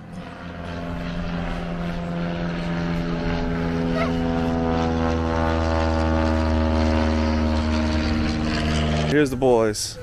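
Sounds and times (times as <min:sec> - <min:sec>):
propeller aircraft droning overhead: 0:00.0 - 0:10.0.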